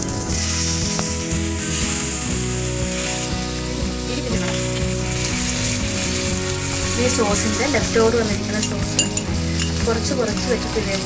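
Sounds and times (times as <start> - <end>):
background music with held notes: 0.0 - 11.0
fish sizzling in a pan: 0.0 - 11.0.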